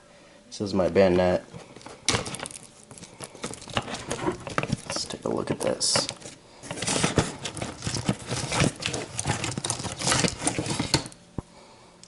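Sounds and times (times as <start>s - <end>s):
handling noise rustles and taps: 1.5s - 11.5s.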